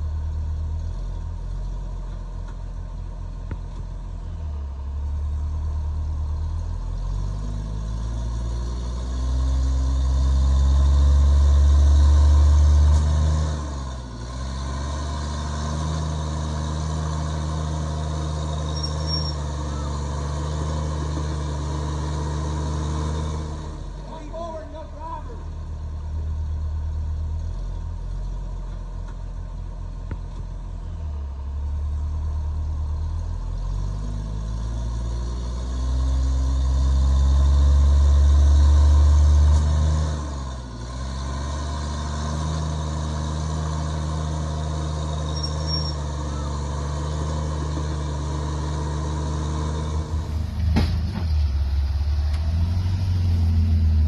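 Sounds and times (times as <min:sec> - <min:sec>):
jeep engine running: 0:00.0 - 0:54.0.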